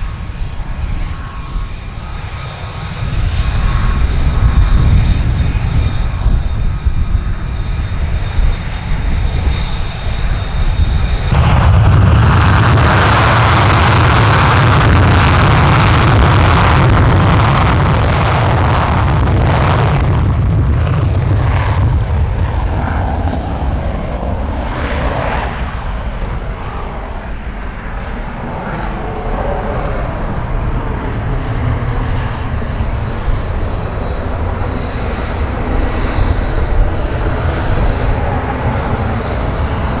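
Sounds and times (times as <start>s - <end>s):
jet engine roaring with crackling: 0.0s - 40.0s.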